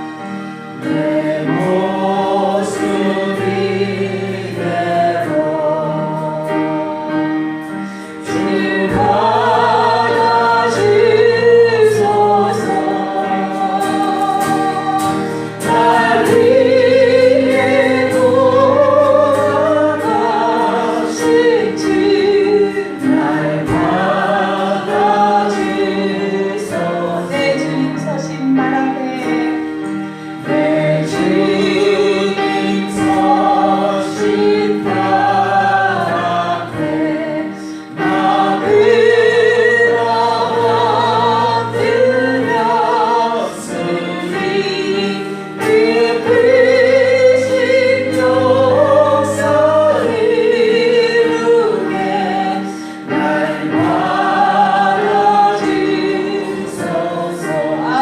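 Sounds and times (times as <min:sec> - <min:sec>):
congregation singing in chorus: 0:00.0 - 0:58.0
instrumental accompaniment low notes: 0:00.0 - 0:58.0.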